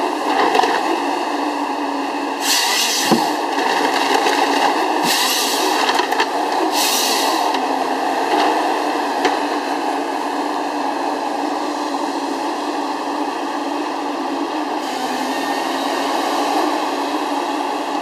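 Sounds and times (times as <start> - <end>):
harvester engine and hydraulics droning: 0.0 - 18.0.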